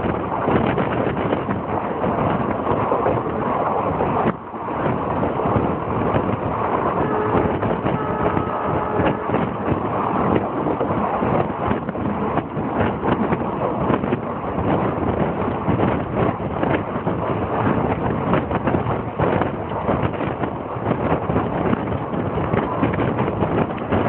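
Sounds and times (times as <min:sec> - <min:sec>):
train rumbling and rattling: 0:00.0 - 0:24.0
wind buffeting microphone: 0:00.0 - 0:24.0.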